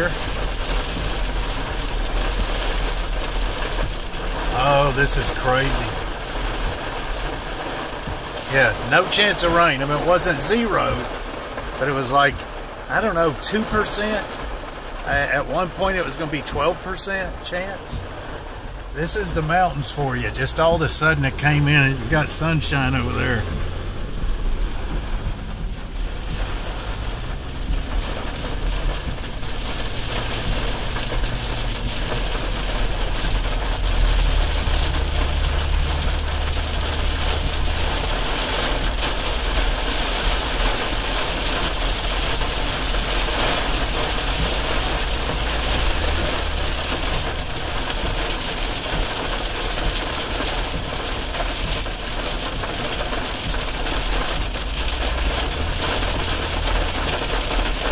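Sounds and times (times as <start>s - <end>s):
car engine and tyres rumbling: 0.0s - 57.9s
heavy rain on car roof: 0.0s - 57.9s.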